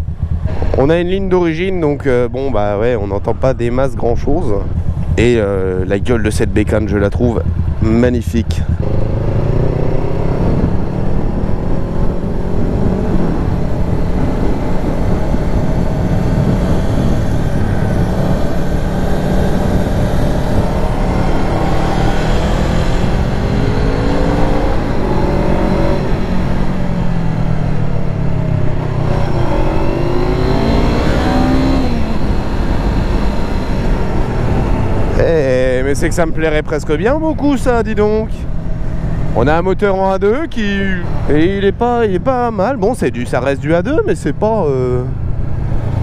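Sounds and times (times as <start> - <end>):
wind noise: 0.0 - 39.7
motorcycle engine accelerating: 0.0 - 43.2, 43.8 - 46.0.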